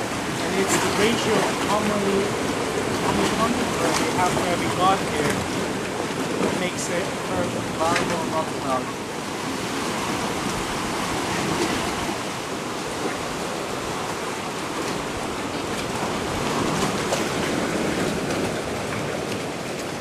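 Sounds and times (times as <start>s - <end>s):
surf washing over rocks: 0.0s - 20.0s.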